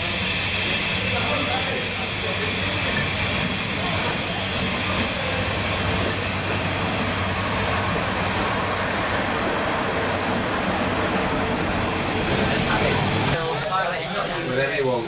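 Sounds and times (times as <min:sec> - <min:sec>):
steam hissing: 0:00.0 - 0:13.4
diesel locomotive engine humming: 0:00.0 - 0:13.6.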